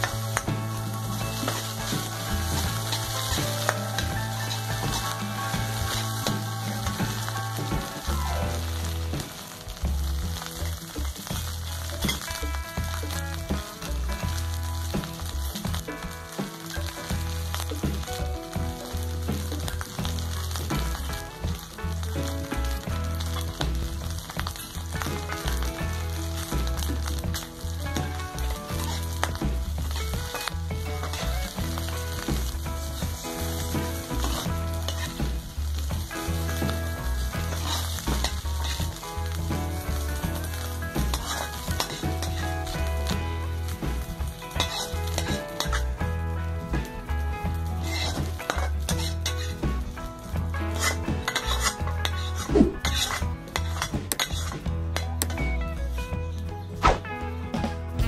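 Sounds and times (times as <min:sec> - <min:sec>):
fried rice sizzling in wok: 0:00.0 - 0:55.5
music with stepping bass line: 0:00.0 - 0:58.0.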